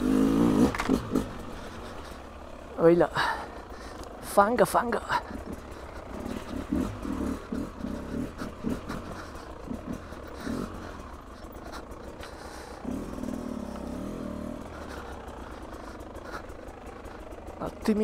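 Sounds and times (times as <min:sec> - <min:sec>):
constant low rumble: 0:00.0 - 0:18.0
two-stroke motorcycle engine revving: 0:00.0 - 0:18.0.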